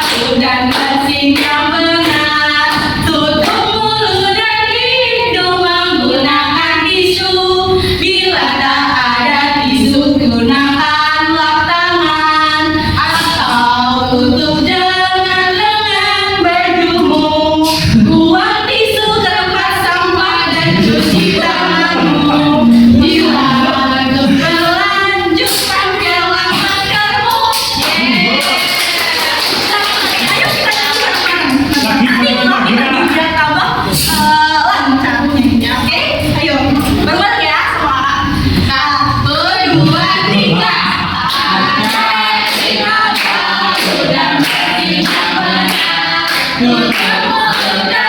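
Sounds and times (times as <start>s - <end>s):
women singing unaccompanied: 0.0s - 48.0s.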